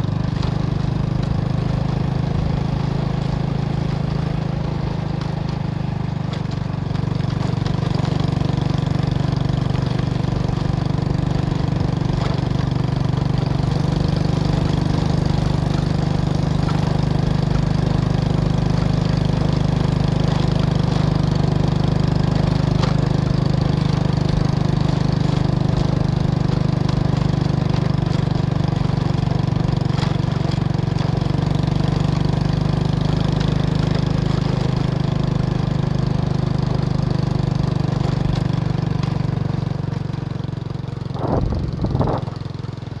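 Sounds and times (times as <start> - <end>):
motorbike engine droning: 0.0 - 43.0.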